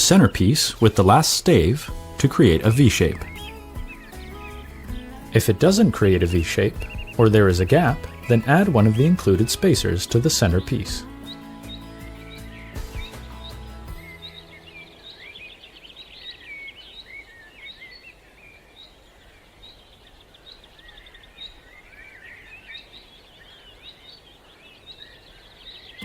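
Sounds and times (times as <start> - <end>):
birds chirping and trilling: 0.0 - 26.0
faint outdoor hiss: 0.0 - 26.0.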